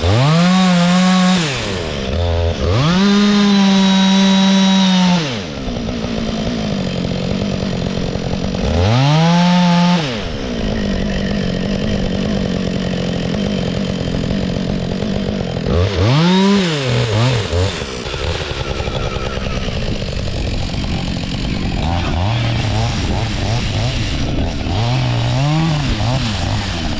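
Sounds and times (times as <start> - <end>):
chainsaw cutting log: 0.0 - 26.9.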